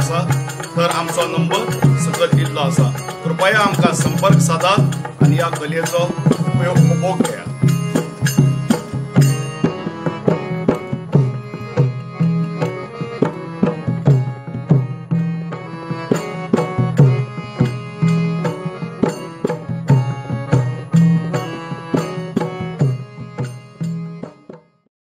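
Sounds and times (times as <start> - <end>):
held pitched notes: 0.0 - 24.5
hand drum rhythm: 0.0 - 24.7.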